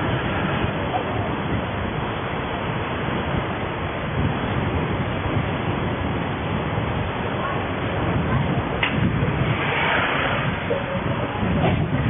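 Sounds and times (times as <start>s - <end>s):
road and engine noise: 0.0s - 12.0s
wind on microphone: 0.0s - 12.0s.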